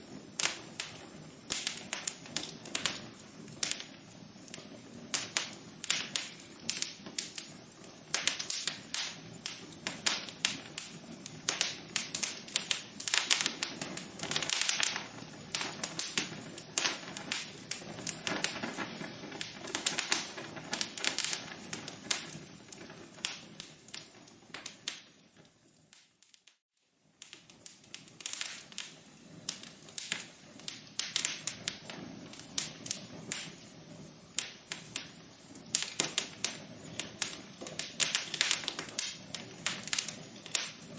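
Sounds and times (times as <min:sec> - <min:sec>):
fire pops and snaps: 0:00.0 - 0:40.9
wood fire crackling: 0:00.0 - 0:40.9.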